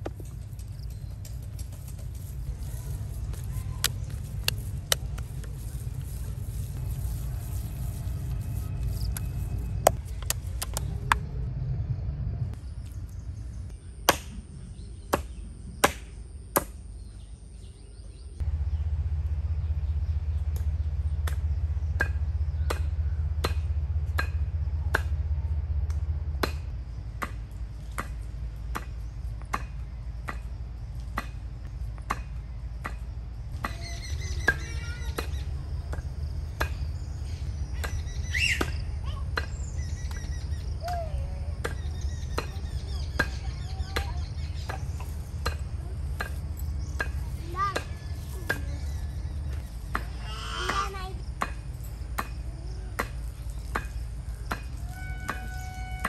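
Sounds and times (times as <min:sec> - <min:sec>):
birds chirping: 0:00.0 - 0:15.9, 0:26.7 - 0:56.0
low steady rumble: 0:00.0 - 0:56.0.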